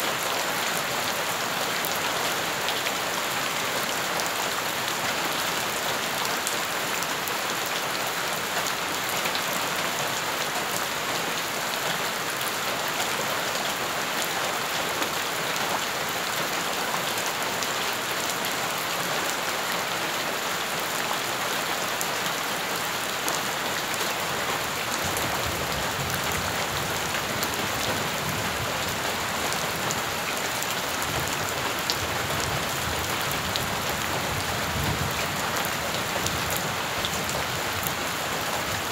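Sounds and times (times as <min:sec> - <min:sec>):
rain splashing on puddles: 0:00.0 - 0:38.9.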